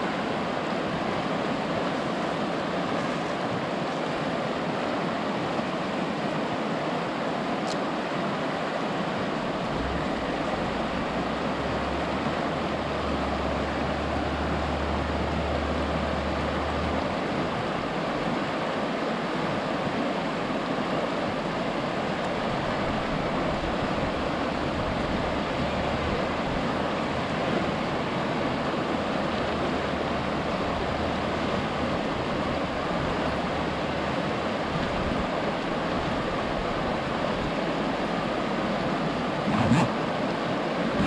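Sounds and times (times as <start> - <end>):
river water rushing over rocks: 0.0 - 41.0.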